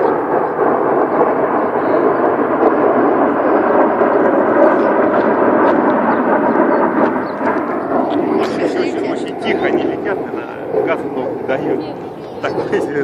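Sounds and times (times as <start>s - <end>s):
jet engines rumbling overhead: 0.0s - 13.0s.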